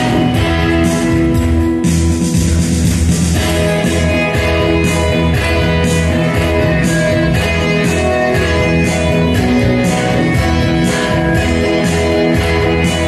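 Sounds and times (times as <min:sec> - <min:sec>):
electric guitar playing: 0:00.0 - 0:13.0
held keyboard notes: 0:00.0 - 0:13.0
steady bass line: 0:00.0 - 0:13.0.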